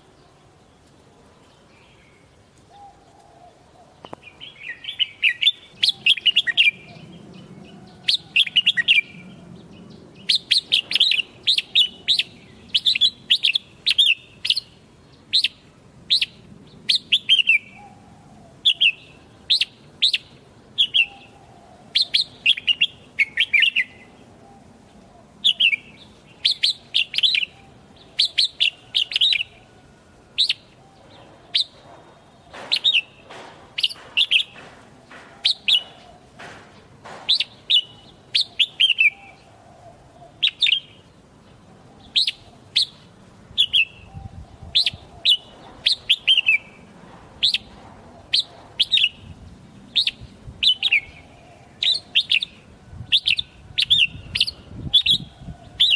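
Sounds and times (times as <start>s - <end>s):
bird warbling song: 0.0s - 29.8s, 30.4s - 55.9s.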